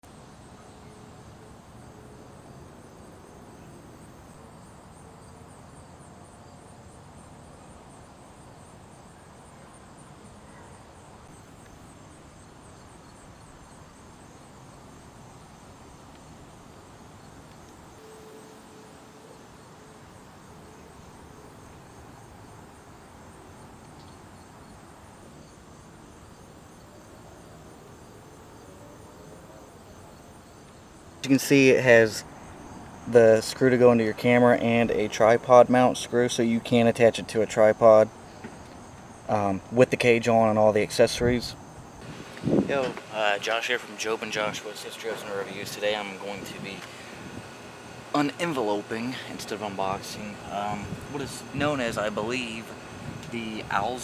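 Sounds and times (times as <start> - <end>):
insects chirping: 0.0 - 54.0
low hiss: 0.0 - 54.0.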